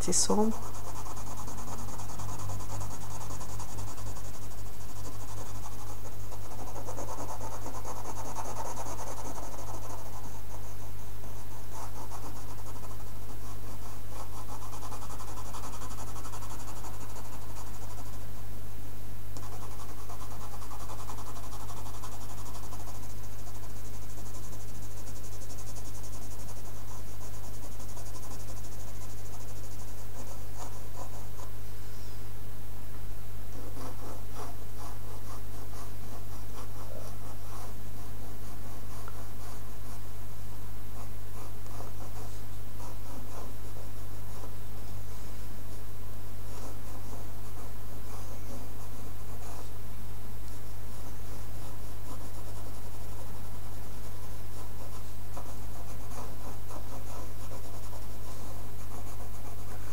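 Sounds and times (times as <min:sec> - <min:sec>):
pencil scratching on paper: 0:00.0 - 0:18.4, 0:19.4 - 0:31.6, 0:33.5 - 0:49.8, 0:50.5 - 0:59.9.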